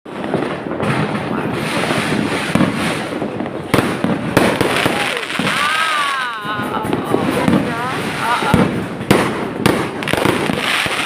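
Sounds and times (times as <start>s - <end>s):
fireworks bangs: 0.1s - 11.0s
fireworks crackling: 0.1s - 11.0s.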